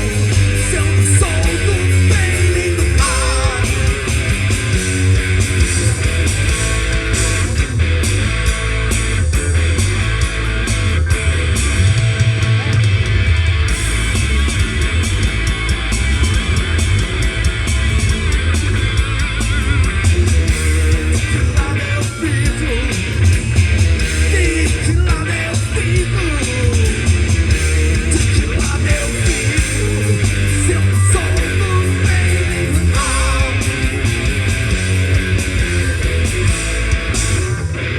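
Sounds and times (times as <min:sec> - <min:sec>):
rock band playing: 0:00.0 - 0:37.9.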